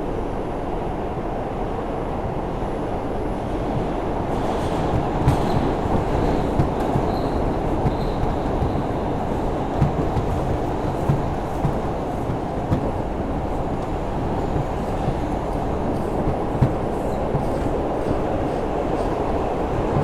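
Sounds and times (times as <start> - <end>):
wheels rumbling on rail: 0.1 - 20.0
clacks over rail joints: 3.4 - 20.0.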